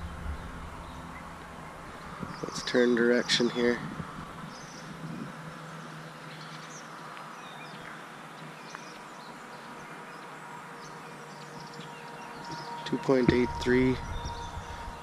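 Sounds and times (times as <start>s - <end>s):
low steady background hum: 0.0s - 15.0s.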